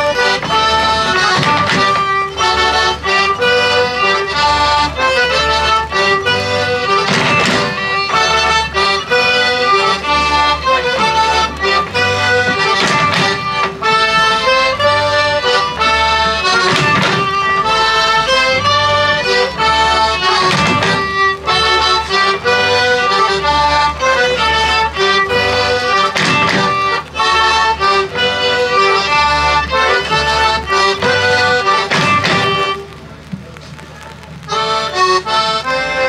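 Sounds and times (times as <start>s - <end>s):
reedy melody over drone: 0.0s - 32.8s
double bass beat: 0.0s - 36.0s.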